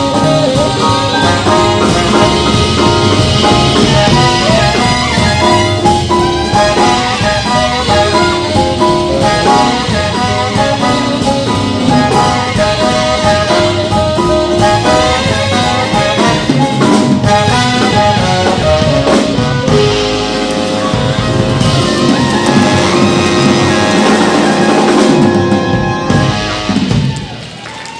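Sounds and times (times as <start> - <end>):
swing band playing: 0.0 - 27.9.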